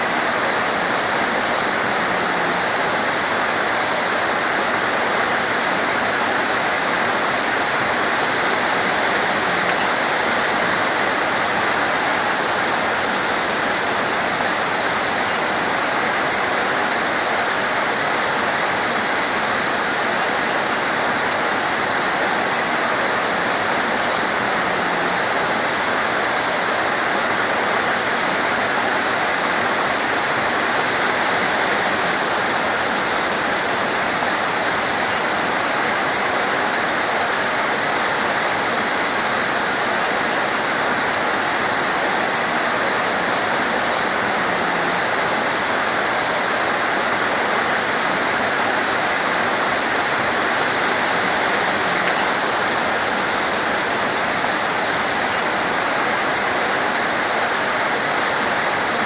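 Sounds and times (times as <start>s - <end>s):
torrential rain: 0.0s - 59.0s.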